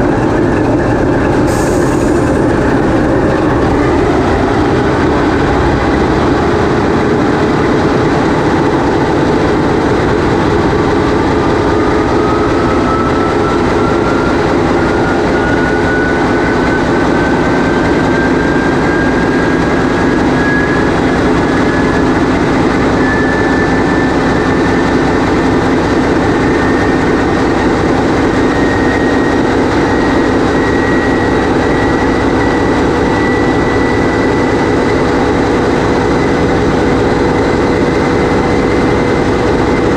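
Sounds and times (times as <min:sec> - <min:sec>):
diesel engine running: 0:00.0 - 0:39.9
rising whine: 0:00.0 - 0:39.9.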